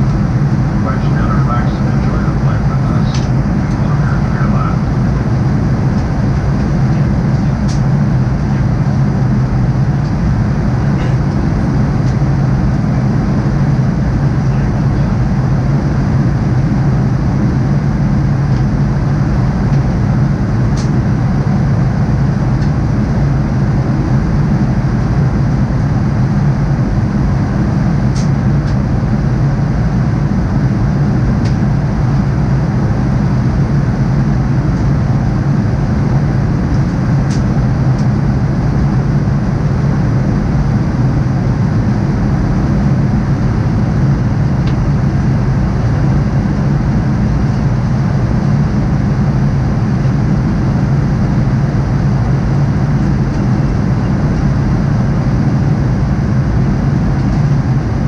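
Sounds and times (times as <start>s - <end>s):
airplane engine hum: 0.0s - 58.0s.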